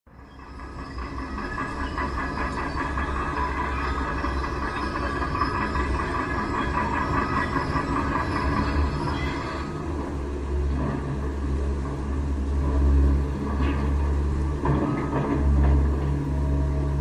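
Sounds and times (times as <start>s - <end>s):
machine running with whining hum: 0.1s - 17.0s.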